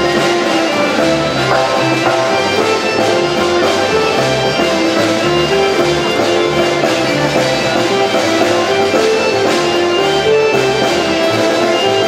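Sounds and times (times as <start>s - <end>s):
folk ensemble playing: 0.0s - 12.0s.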